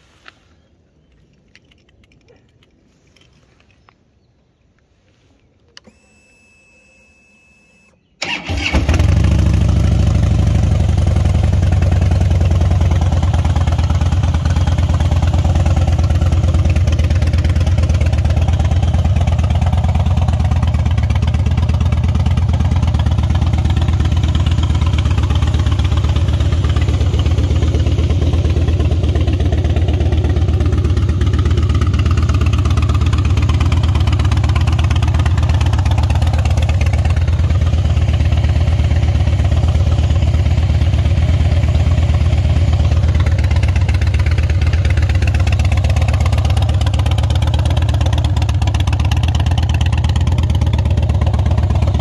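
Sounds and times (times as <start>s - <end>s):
motorcycle engine starting and running: 7.0s - 52.0s.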